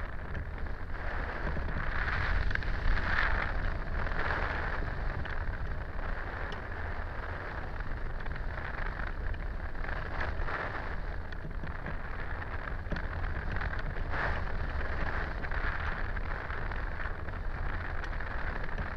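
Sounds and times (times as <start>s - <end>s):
wind rushing over microphone: 0.0s - 18.9s.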